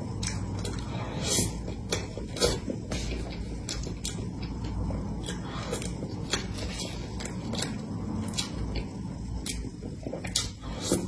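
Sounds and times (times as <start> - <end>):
wet mouth eating sounds: 0.0 - 11.0.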